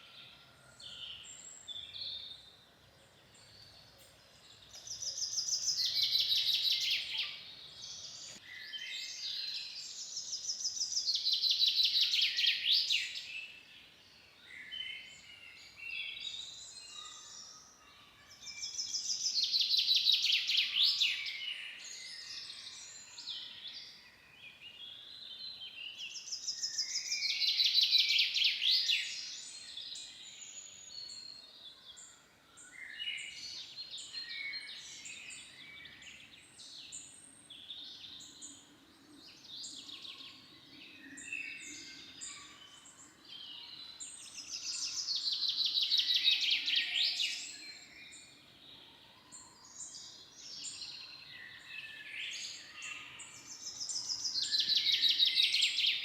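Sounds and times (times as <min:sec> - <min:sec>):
quiet bird chirps: 0:00.0 - 0:56.0.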